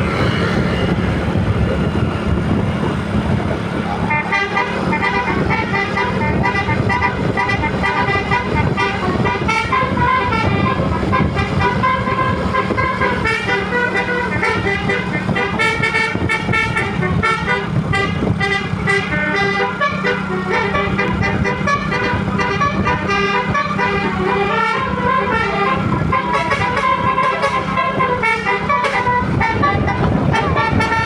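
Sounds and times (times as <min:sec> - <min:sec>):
bus horns playing a tune: 0:00.0 - 0:31.0.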